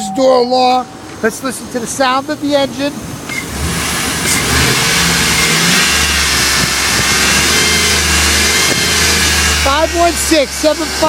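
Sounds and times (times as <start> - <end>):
car engine running: 0.3 - 11.0.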